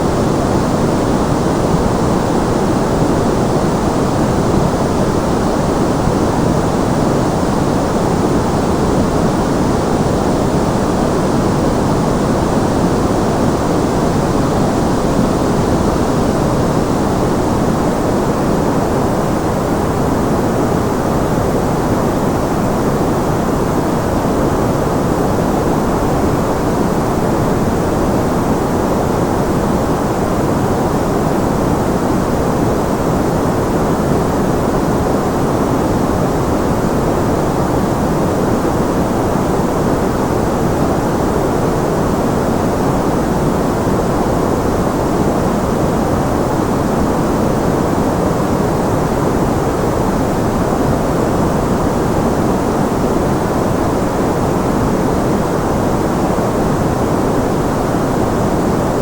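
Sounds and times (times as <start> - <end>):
white noise: 0.0 - 59.0.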